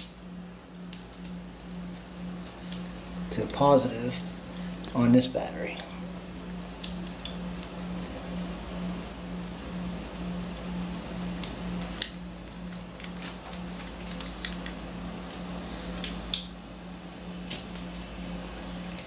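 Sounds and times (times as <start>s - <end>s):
pulsing low hum: 0.0s - 19.0s.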